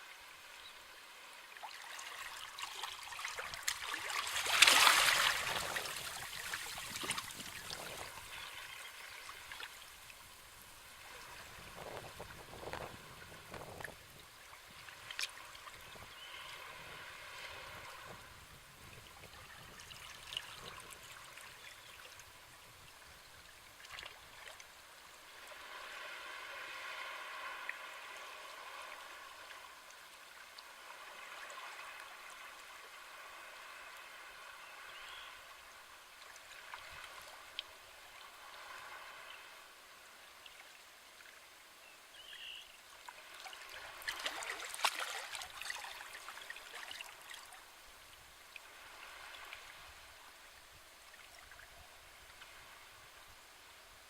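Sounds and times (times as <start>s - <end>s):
small waves washing on shore: 0.0s - 41.5s, 42.4s - 54.0s.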